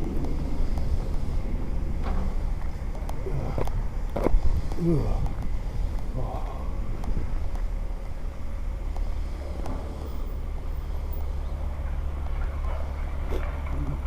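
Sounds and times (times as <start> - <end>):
vehicle engines rumbling: 0.0 - 14.0.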